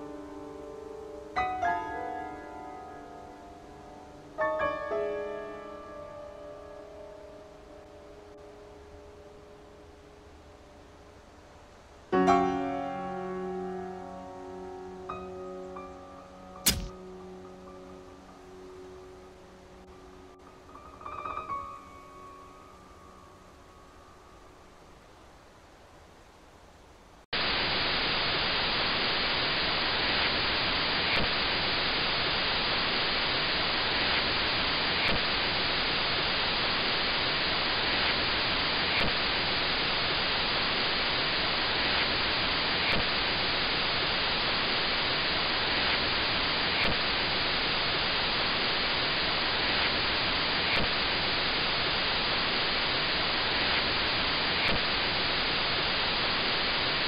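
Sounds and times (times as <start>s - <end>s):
television static hiss: 0.0s - 57.0s.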